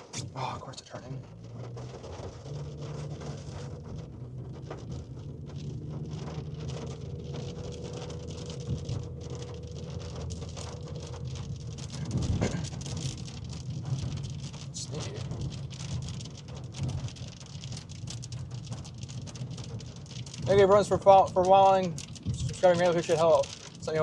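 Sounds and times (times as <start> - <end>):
car engine and road drone: 0.0 - 24.0
light patter: 0.0 - 24.0.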